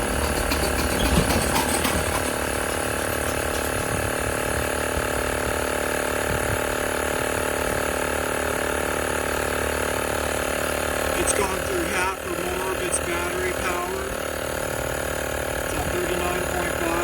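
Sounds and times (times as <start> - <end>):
piston compressor running: 0.0 - 17.0.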